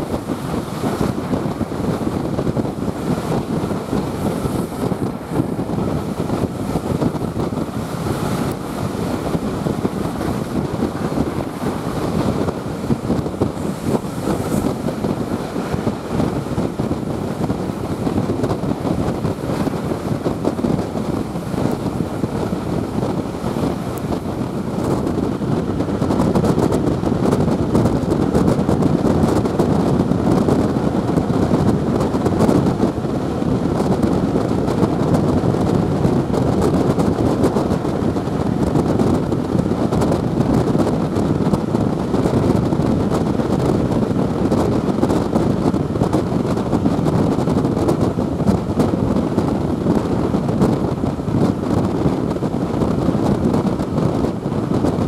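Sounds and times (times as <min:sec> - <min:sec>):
train rumbling along track: 0:00.0 - 0:55.0
wind rushing over microphone: 0:00.0 - 0:55.0.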